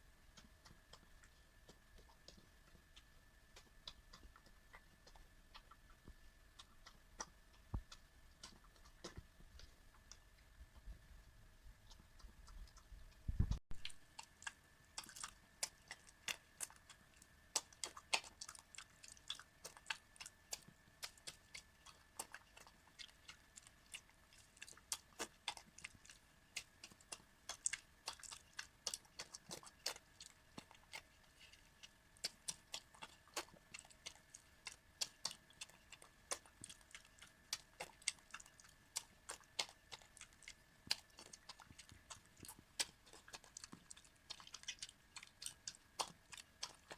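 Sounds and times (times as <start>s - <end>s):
dog lapping and chewing: 0.3s - 46.9s.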